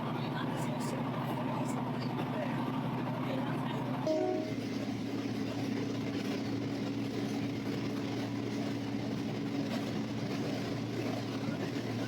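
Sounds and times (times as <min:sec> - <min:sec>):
train running inside carriage: 0:00.0 - 0:12.0.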